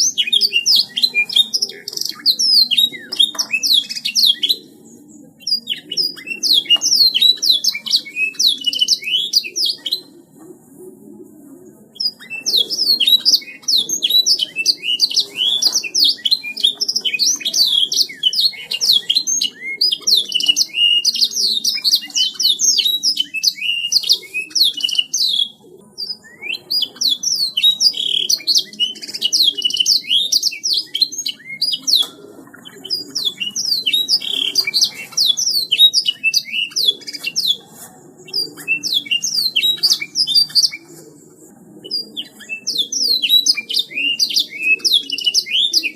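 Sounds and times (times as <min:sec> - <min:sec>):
canary singing: 0:00.0 - 0:10.2, 0:12.0 - 0:41.1, 0:41.8 - 0:45.9.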